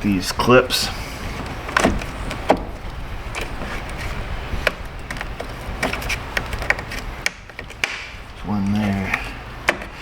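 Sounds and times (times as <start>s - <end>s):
handling noise: 0.0s - 10.0s.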